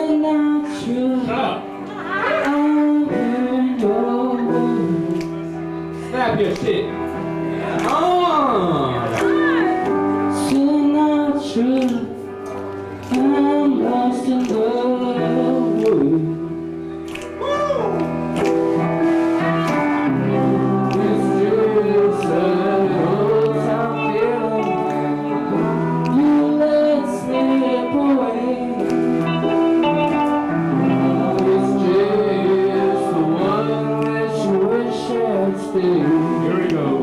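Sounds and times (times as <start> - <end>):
person singing: 0.0 - 6.1, 6.7 - 37.0
live band playing: 0.0 - 37.0.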